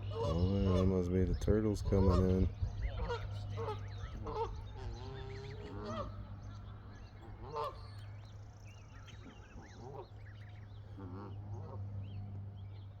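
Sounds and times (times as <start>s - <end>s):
waterfowl drawn-out call: 0.0s - 8.2s, 9.0s - 12.1s
ducklings peeping: 0.0s - 13.0s
steady low hum: 0.0s - 13.0s.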